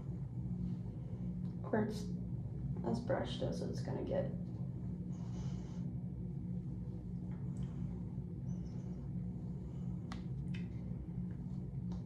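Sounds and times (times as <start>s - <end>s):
low electrical room hum: 0.0s - 12.0s.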